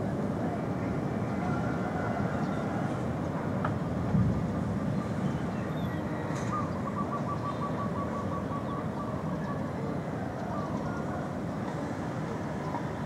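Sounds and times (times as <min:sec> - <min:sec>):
low rumble of city traffic: 0:00.0 - 0:13.0.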